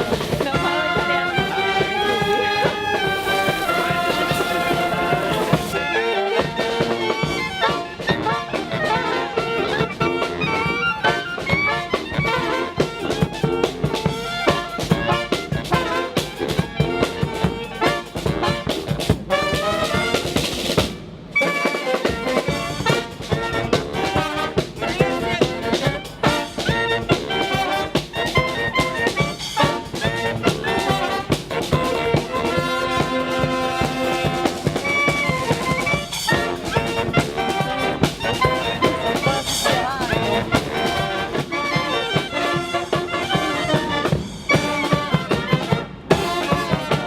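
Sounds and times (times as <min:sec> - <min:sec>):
brass band with drums: 0:00.0 - 0:47.0.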